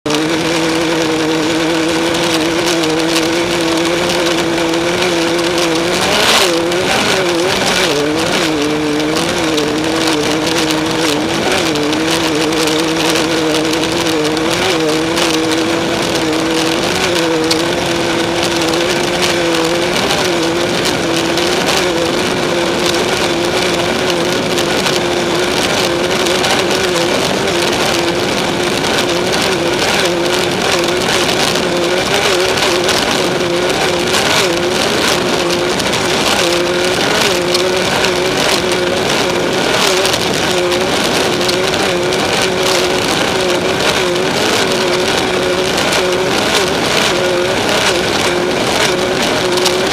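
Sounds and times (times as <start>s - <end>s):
chassis rattling over rough terrain: 0.0s - 49.9s
engine at high revs: 0.0s - 49.9s
loud wind: 0.0s - 49.9s.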